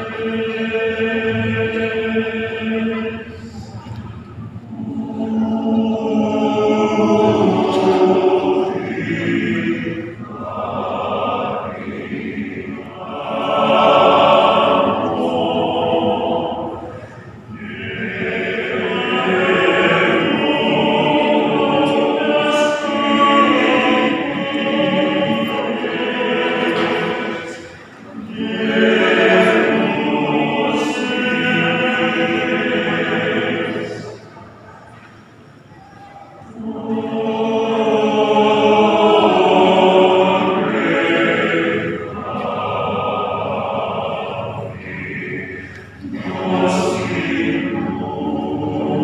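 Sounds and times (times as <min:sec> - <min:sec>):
men's choir singing a cappella: 0:00.0 - 0:03.8, 0:04.4 - 0:49.0.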